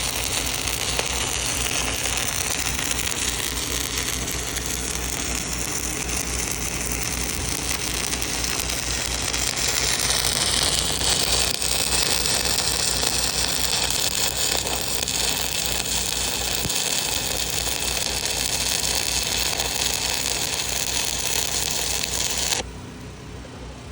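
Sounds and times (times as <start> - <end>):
welding arc crackling and sizzling: 0.0 - 22.6.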